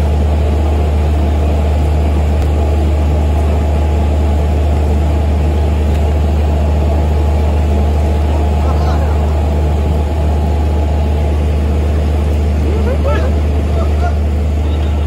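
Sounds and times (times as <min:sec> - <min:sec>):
ship machinery drone: 0:00.0 - 0:15.0.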